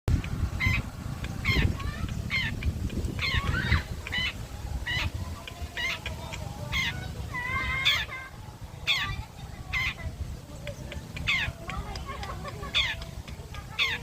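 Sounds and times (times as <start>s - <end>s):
shrike calling: 0.4s - 14.0s.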